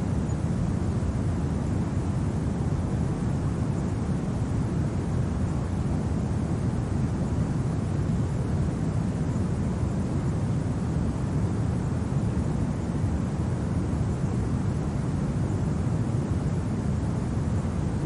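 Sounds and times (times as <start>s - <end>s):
low rumbling wind: 0.0s - 18.0s.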